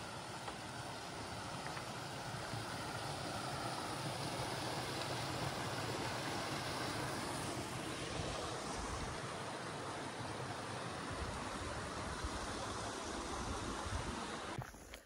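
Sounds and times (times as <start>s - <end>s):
creek water rushing: 0.0s - 14.9s.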